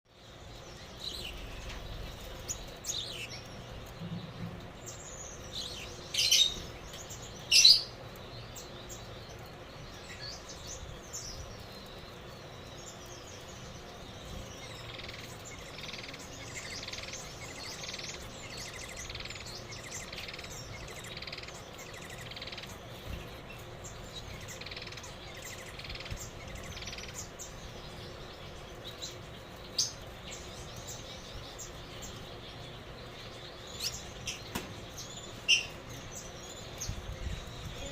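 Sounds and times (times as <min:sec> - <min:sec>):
finch chirping: 0:00.1 - 0:37.9.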